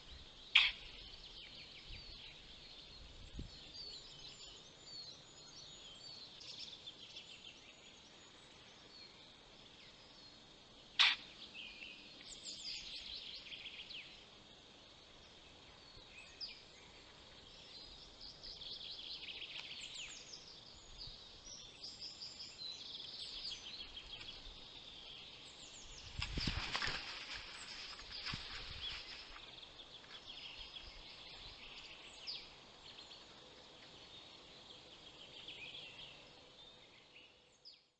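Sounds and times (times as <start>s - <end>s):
songbirds chirping and trilling: 0.0s - 37.9s.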